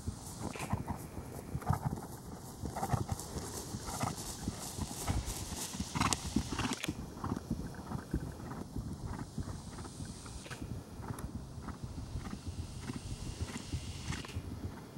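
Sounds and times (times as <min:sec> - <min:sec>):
horse hoofbeats on grass: 0:00.0 - 0:14.9.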